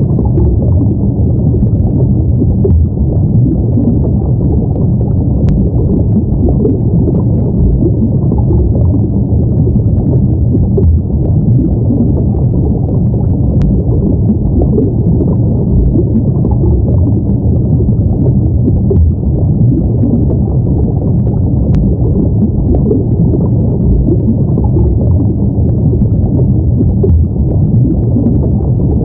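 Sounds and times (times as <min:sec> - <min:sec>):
muffled underwater rumble: 0:00.0 - 0:29.0.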